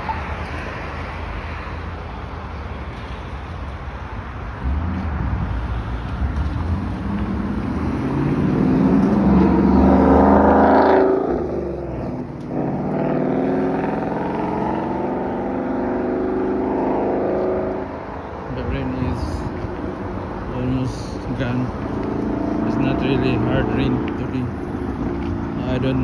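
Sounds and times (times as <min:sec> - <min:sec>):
cars passing on wet road: 0:00.0 - 0:26.0.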